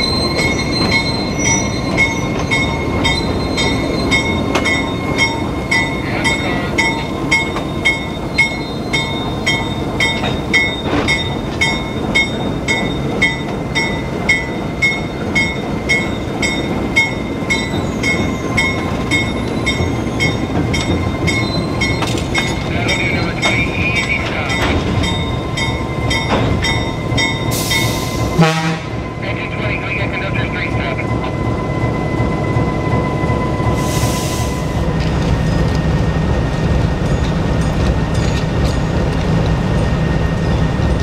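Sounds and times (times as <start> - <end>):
freight train rumbling on rails: 0.0 - 41.0.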